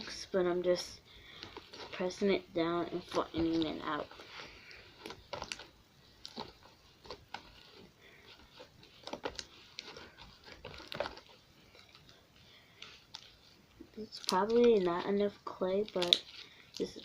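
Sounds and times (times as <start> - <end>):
slime squelching: 0.1 - 17.0.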